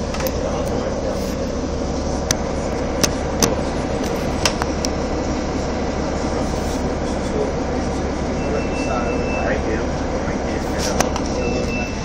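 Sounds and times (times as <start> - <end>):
bus engine and road noise drone: 0.0 - 12.0.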